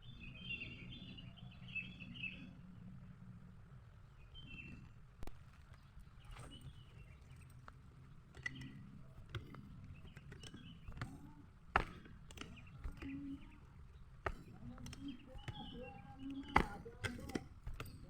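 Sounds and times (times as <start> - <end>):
bird chirps: 0.0 - 2.6, 5.7 - 18.0.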